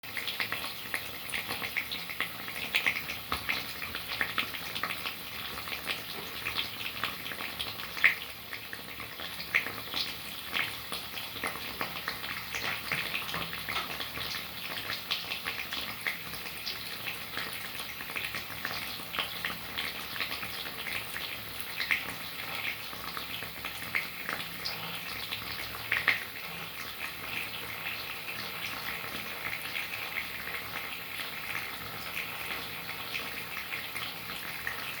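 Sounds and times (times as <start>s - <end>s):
rain falling steadily: 0.0s - 35.0s.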